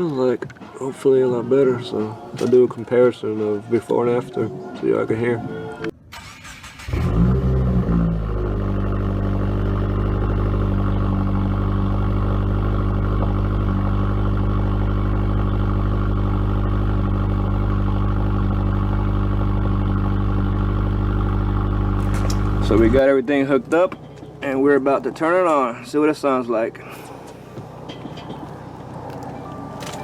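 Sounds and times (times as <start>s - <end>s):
car engine starting and idling: 0.0s - 30.0s.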